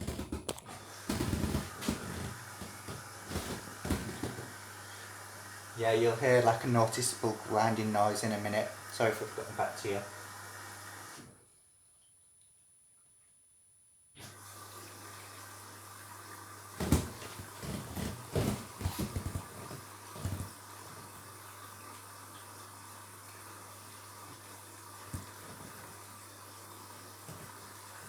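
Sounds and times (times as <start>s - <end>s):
water flowing into washing machine: 0.0s - 11.3s, 14.2s - 28.0s.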